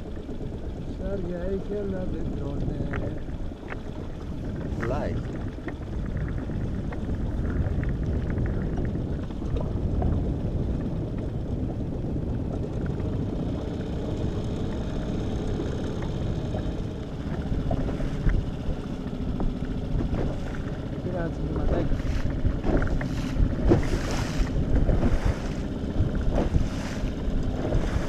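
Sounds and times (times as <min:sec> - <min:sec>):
outboard motor running: 0:00.0 - 0:28.0
water washing along hull: 0:00.0 - 0:28.0.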